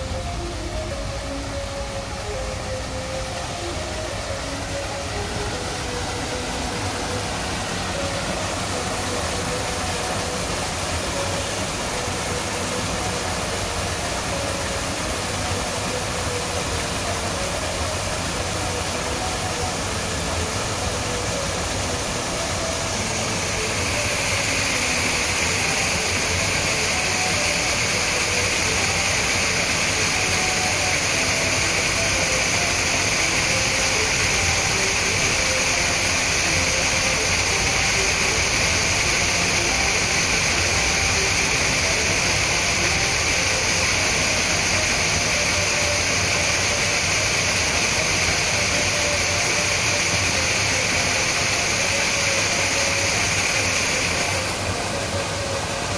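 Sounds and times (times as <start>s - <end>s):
water pouring over rocks: 0.0s - 55.9s.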